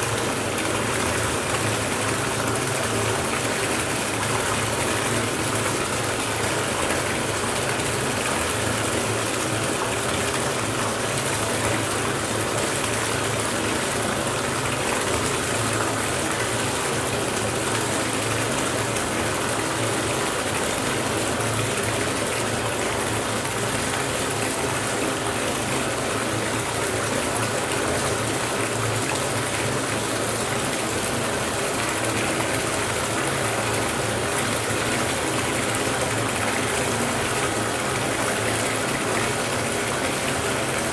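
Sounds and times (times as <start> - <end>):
water pouring into bathtub: 0.0 - 40.9.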